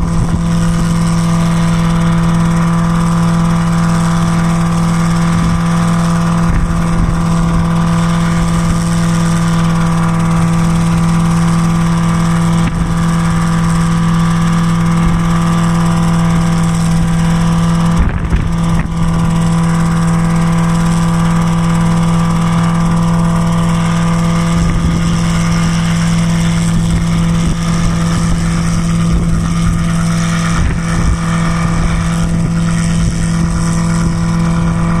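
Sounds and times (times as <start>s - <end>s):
helicopter engine and rotor hum: 0.0s - 35.0s.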